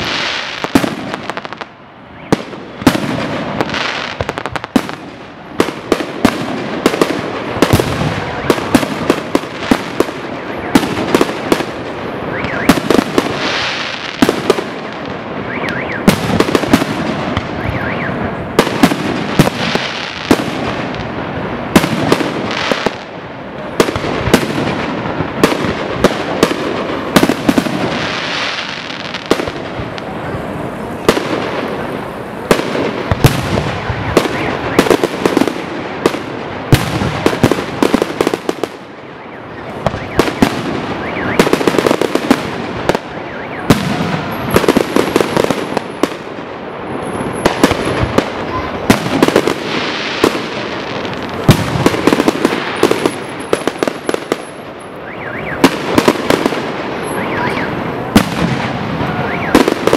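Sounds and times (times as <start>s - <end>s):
fireworks bursting with loud bangs: 0.0s - 59.9s
fireworks crackle: 0.0s - 59.9s.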